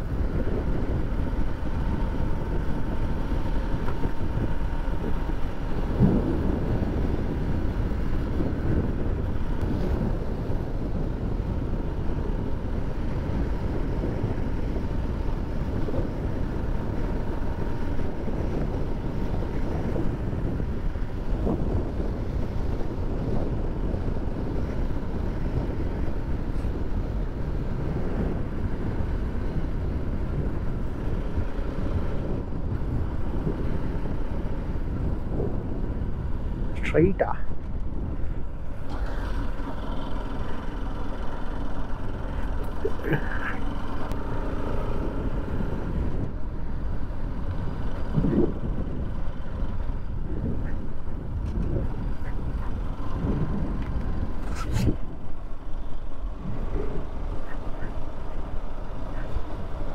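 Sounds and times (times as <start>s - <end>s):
motorcycle engine cruising: 0.0s - 36.8s, 37.5s - 59.9s
wind on microphone: 0.0s - 59.9s.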